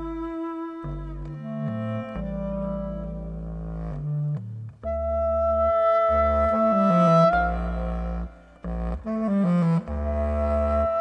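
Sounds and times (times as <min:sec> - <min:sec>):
clarinet playing: 0:00.0 - 0:11.0
low bass notes: 0:00.0 - 0:11.0.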